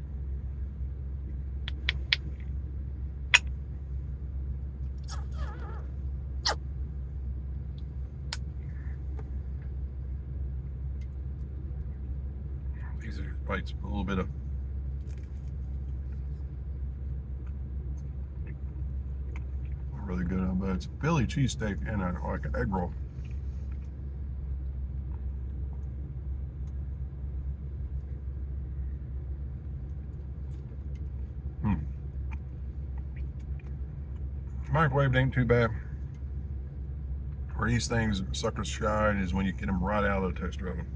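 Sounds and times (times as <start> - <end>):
truck idling: 0.0 - 40.9.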